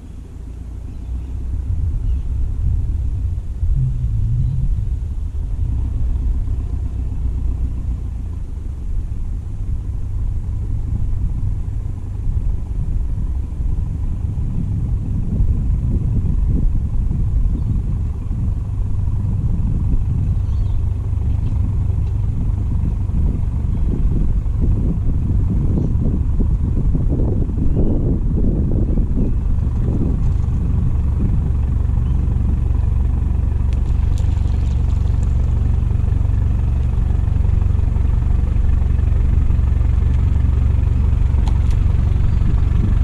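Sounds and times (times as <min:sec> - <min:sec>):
boat motor rumbling: 0:00.0 - 0:43.0.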